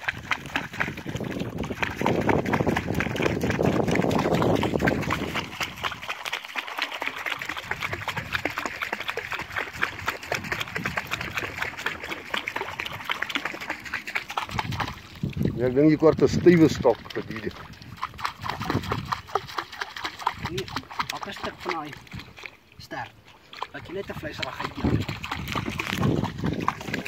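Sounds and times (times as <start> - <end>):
fish thrashing and splashing: 0.0 - 27.0
water dripping: 0.0 - 27.0.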